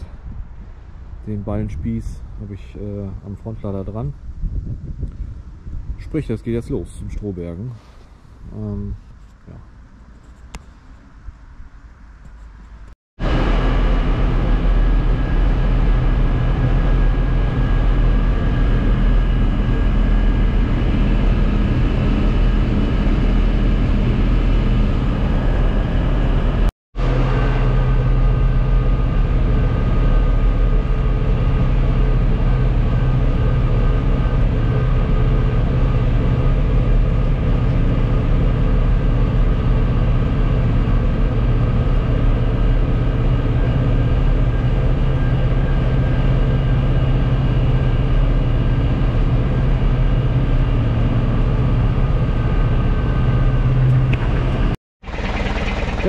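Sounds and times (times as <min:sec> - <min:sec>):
tractor engine drone: 0:09.5 - 0:56.0.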